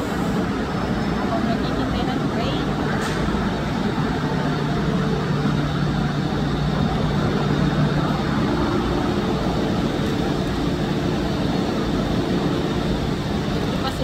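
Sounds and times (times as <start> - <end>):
machinery hum: 0.0 - 14.0
traffic: 0.0 - 14.0.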